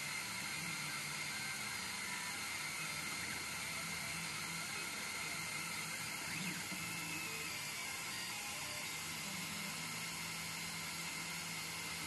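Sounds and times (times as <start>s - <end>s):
laser engraver hiss and whine: 0.0s - 12.0s
stepper motor tones: 0.0s - 12.0s.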